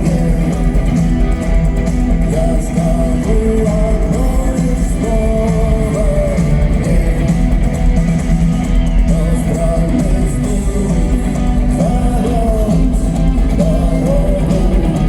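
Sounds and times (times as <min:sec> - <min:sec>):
person singing: 0:00.0 - 0:07.9, 0:08.8 - 0:15.0
live rock band playing: 0:00.0 - 0:15.0.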